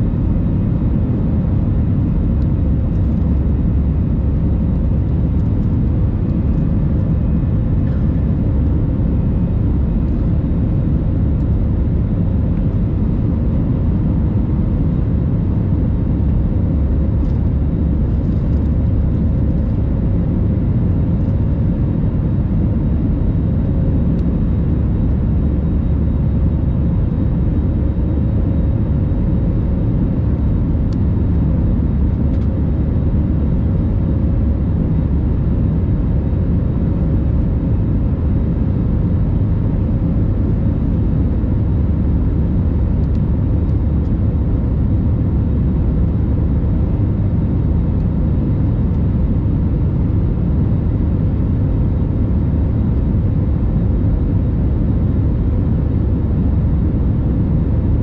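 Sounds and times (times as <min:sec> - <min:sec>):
jet engine cabin drone: 0:00.0 - 0:58.0.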